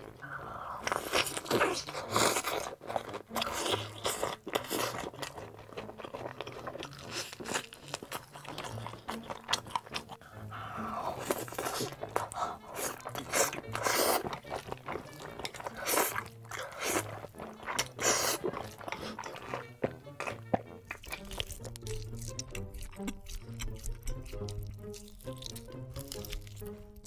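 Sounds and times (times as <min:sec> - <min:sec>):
wet chewing: 0:00.0 - 0:27.0
crunching fried chicken: 0:00.8 - 0:26.8.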